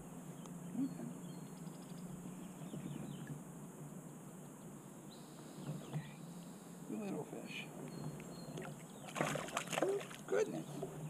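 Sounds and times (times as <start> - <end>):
steady background noise: 0.0 - 11.0
faint bird chirps: 0.3 - 3.4, 4.4 - 11.0.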